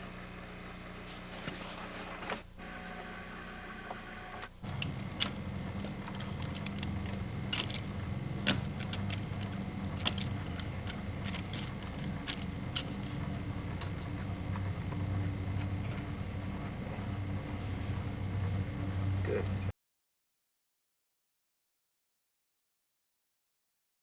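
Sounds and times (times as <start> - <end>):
low steady hum: 0.0 - 19.7.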